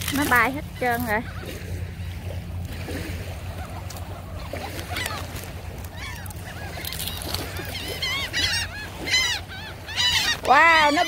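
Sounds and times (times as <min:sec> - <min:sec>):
gulls calling: 0:00.0 - 0:11.0
wind and surf rumble: 0:00.0 - 0:11.0.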